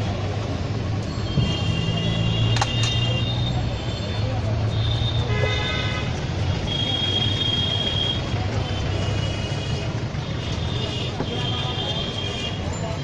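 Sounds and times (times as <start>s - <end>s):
traffic engines humming: 0.0s - 13.0s
car horns: 1.2s - 12.7s.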